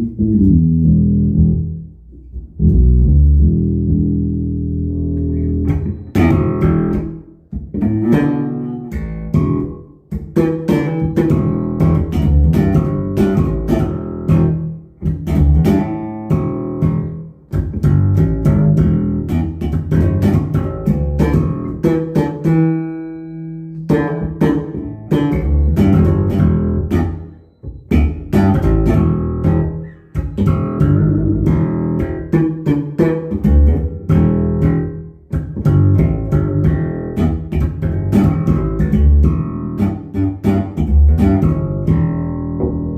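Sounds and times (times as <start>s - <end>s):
electric bass plucked: 0.0s - 42.9s.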